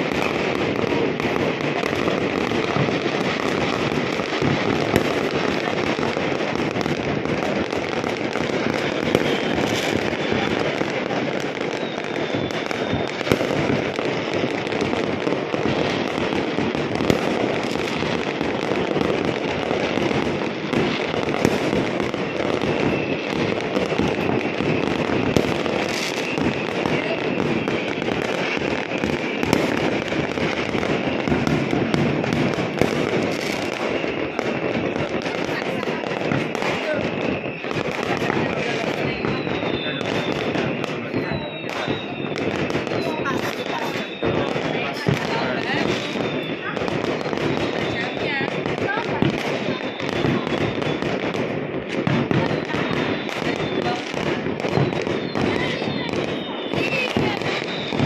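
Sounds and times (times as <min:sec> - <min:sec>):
fireworks crackling and popping: 0:00.0 - 0:58.0
loud firework bangs: 0:00.0 - 0:58.0.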